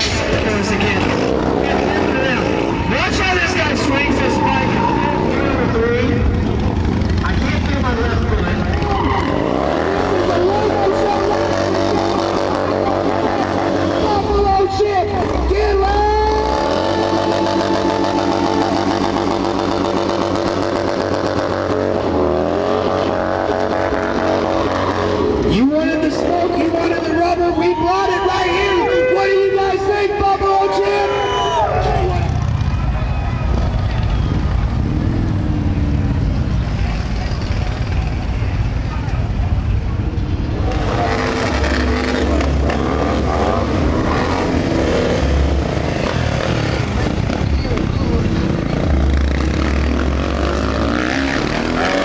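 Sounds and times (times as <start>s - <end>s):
motorcycle engine running: 0.0s - 29.9s, 31.2s - 52.0s.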